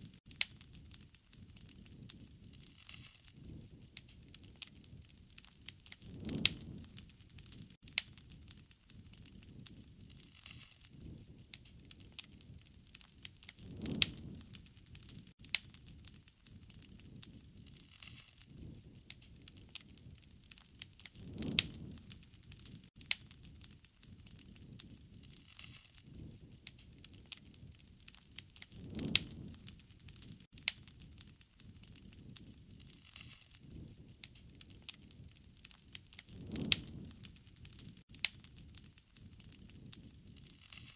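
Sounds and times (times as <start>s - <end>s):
low rumble of flame: 0.0s - 40.9s
wood fire crackling and popping: 0.0s - 40.9s.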